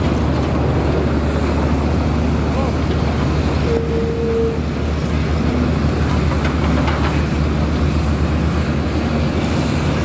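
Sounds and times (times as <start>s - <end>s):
heavy diesel engine rumbling: 0.0s - 10.0s.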